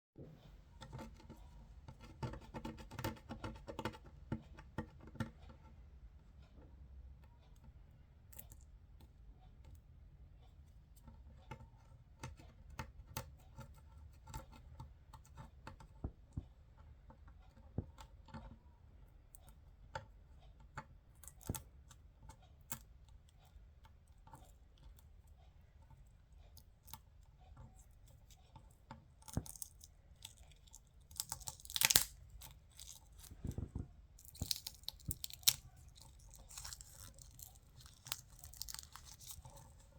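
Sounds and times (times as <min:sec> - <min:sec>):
faint soft clicks and taps: 0:00.2 - 0:39.9.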